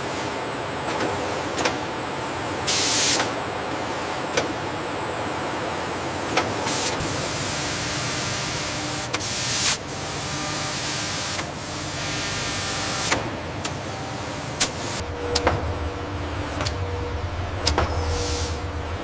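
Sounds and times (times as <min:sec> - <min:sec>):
industrial machine noise: 0:00.0 - 0:19.0.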